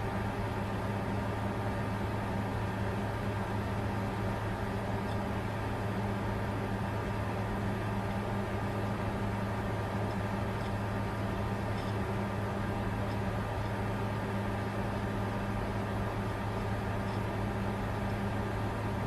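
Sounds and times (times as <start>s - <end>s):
computer fan whir: 0.0s - 19.0s
constant low hum: 0.0s - 19.0s.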